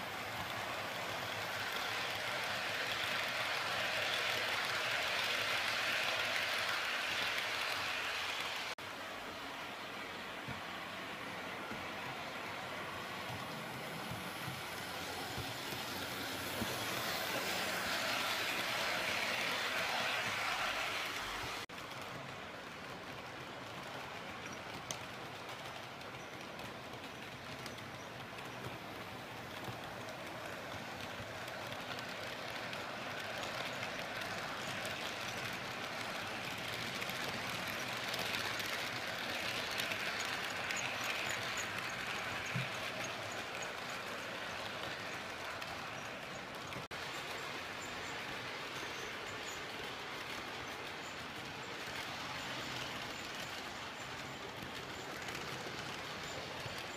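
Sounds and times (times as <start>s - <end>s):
model train whirring rattle: 0.0s - 8.8s, 10.8s - 56.9s.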